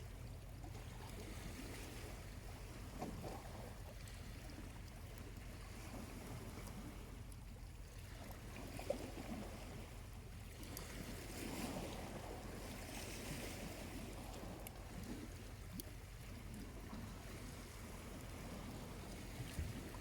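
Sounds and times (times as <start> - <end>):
small waves washing onto beach: 0.7 - 20.0.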